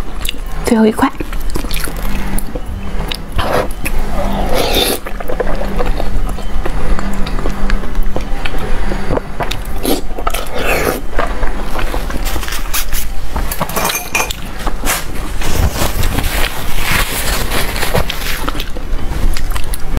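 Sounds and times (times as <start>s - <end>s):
crunchy food being chewed: 0.0s - 13.7s, 14.3s - 20.0s.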